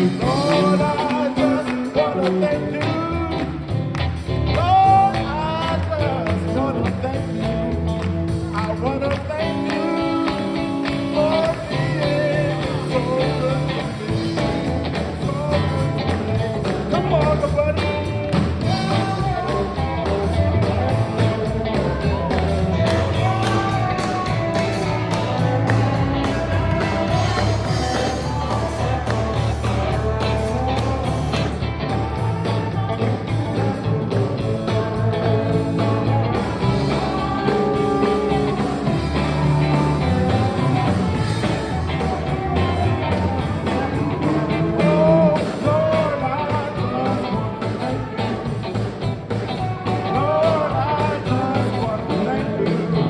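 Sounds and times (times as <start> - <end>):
bass: 0.0 - 53.0
steady drum beat: 0.0 - 53.0.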